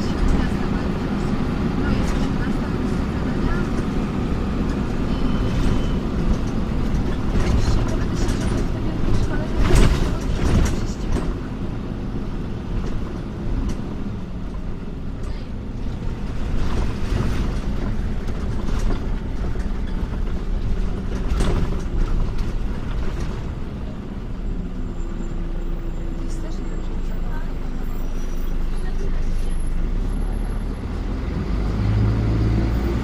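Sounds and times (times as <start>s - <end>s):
bus diesel engine idling: 0.0s - 31.0s.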